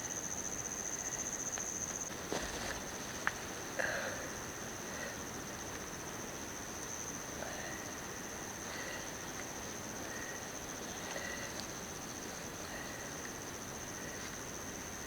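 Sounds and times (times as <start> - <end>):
crickets trilling: 0.0 - 15.0
insect chirps: 0.0 - 15.0.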